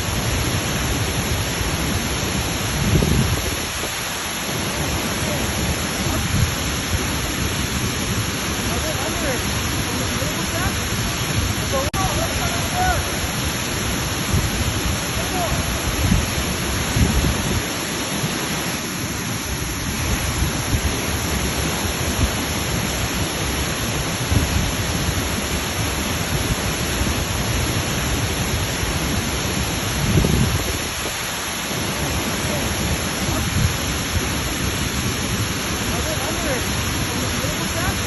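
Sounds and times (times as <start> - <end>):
waterfall rushing water: 0.0 - 38.0.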